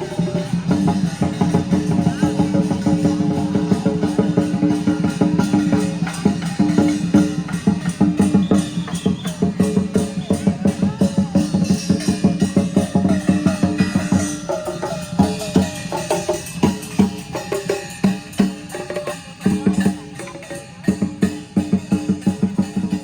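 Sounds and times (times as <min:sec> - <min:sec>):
music with fast drumming: 0:00.0 - 0:23.0.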